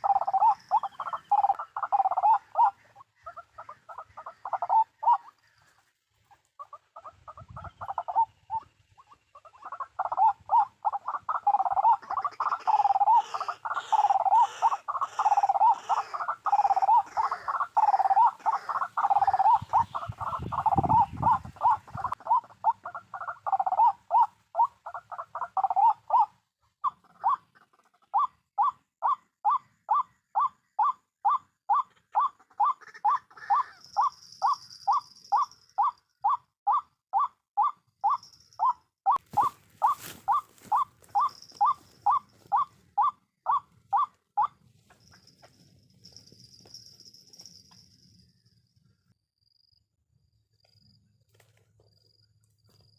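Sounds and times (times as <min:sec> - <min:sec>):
waterhen croaking calls: 0:00.0 - 0:05.8, 0:06.6 - 0:45.3.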